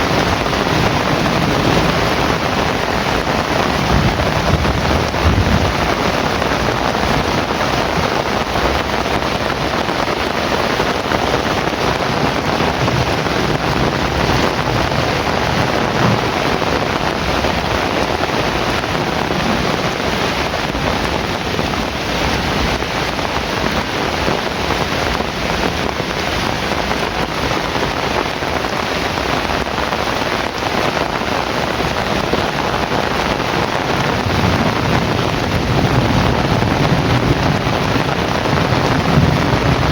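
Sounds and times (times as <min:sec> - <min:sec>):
low thunder rumble: 0:00.0 - 0:30.8, 0:31.4 - 0:39.9
heavy rain falling: 0:00.0 - 0:39.9.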